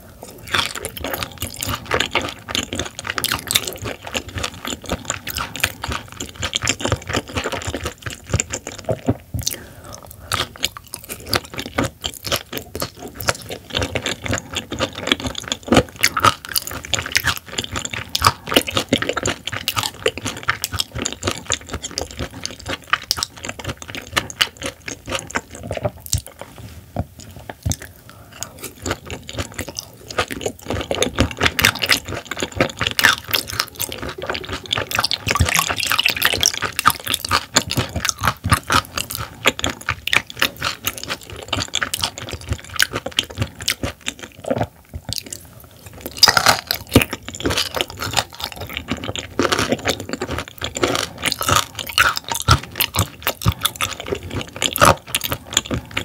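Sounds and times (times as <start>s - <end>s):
wet chewing of raw fish: 0.0s - 56.0s.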